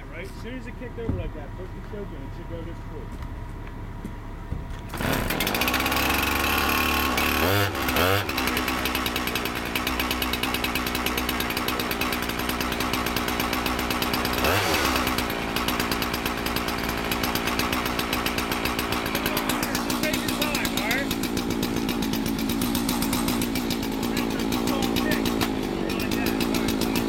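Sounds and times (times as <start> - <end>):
two-stroke saw idling and revving: 4.8 - 27.0.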